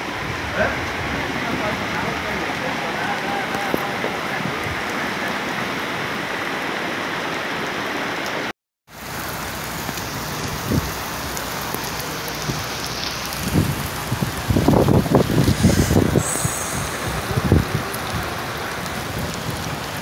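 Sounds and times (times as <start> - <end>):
heavy rain on pavement: 0.0 - 20.0.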